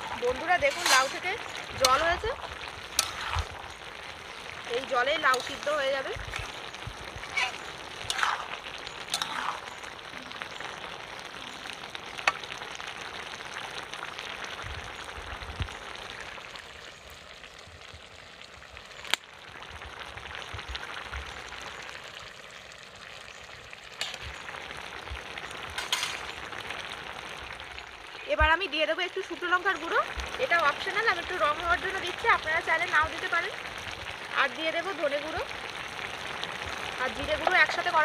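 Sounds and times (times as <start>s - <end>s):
vegetables sizzling in a pot: 0.0s - 38.0s.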